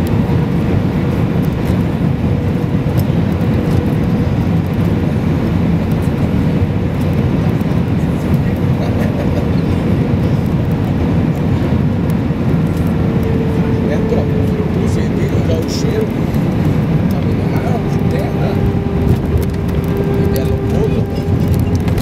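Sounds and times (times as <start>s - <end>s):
aircraft engines and air rumble: 0.0s - 22.0s.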